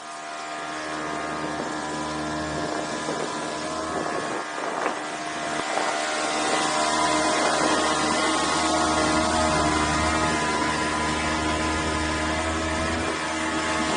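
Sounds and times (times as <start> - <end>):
motorboat engine running: 0.0 - 13.9
wind rushing over microphone: 0.6 - 13.9.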